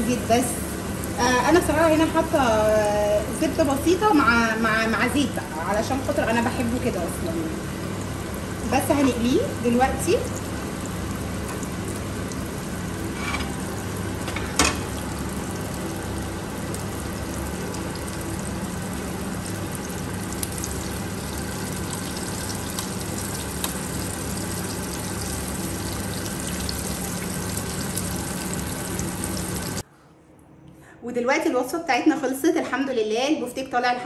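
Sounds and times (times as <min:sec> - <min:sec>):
meat sizzling in oil: 0:00.0 - 0:29.8.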